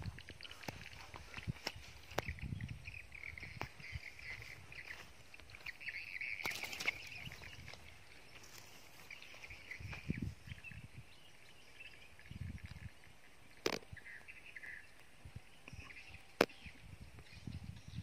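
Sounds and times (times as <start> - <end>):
high chirping of small animals: 0.0 - 18.0.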